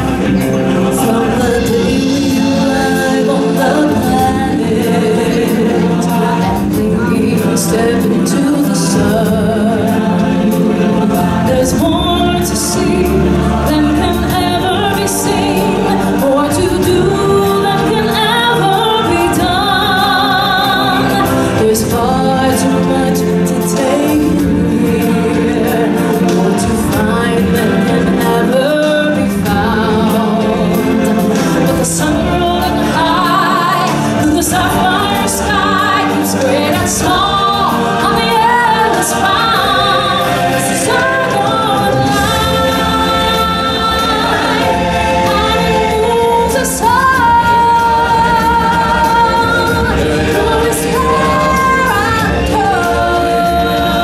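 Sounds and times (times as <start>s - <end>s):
backing music: 0.0s - 54.0s
choir singing: 0.0s - 54.0s
woman singing: 0.0s - 54.0s.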